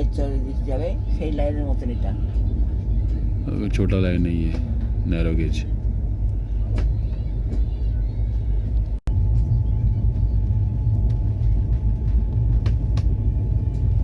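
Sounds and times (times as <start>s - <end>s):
train rumble inside coach: 0.0s - 14.0s.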